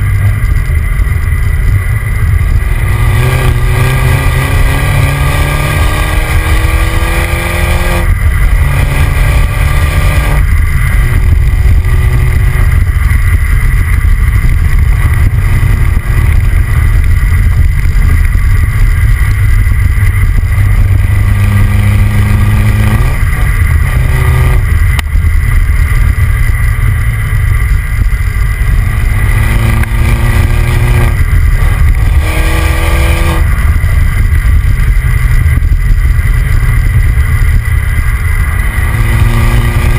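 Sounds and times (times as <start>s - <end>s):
car engine accelerating: 0.0s - 39.9s
wind and road rumble: 0.0s - 39.9s.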